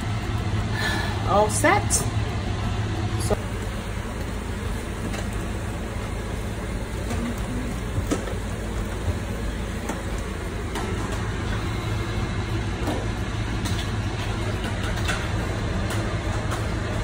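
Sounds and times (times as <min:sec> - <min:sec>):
mechanical whir with low hum: 0:00.0 - 0:17.0.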